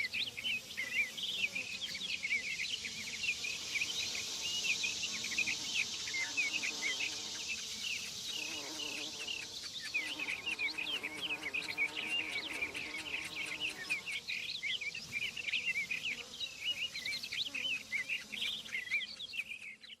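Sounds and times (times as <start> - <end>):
high insect drone: 0.0 - 19.2
birds chirping: 0.0 - 20.0.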